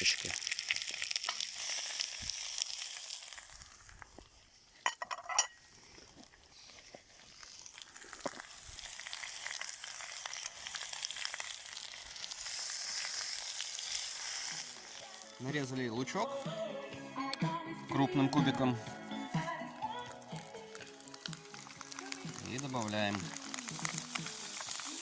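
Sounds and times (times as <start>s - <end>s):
food sizzling in hot oil: 0.0s - 16.7s, 19.1s - 25.0s.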